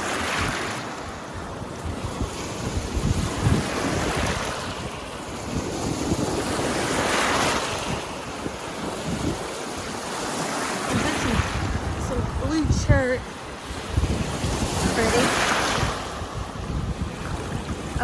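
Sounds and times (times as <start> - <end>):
waves washing onto stony shore: 0.0 - 18.0
wind gusting on microphone: 0.0 - 18.0.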